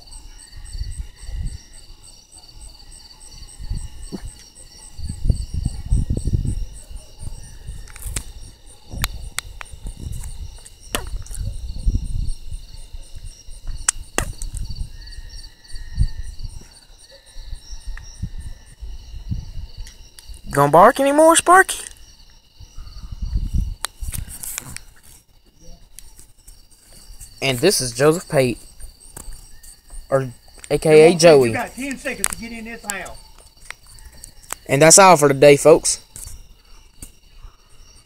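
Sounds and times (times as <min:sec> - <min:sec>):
pulsing insect trills: 0:00.0 - 0:38.0.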